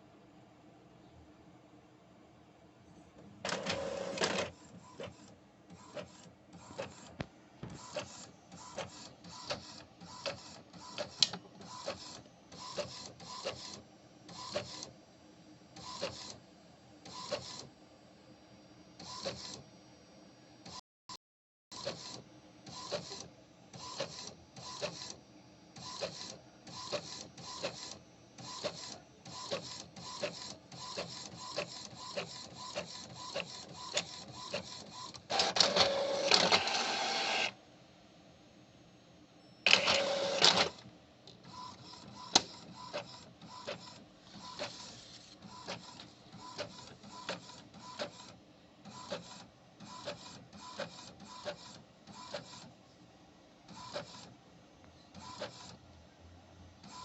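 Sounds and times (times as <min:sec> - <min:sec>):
printer whirring: 0:03.2 - 0:20.8, 0:21.7 - 0:37.6, 0:39.6 - 0:52.8, 0:53.6 - 0:54.4, 0:55.1 - 0:55.8, 0:56.8 - 0:57.0.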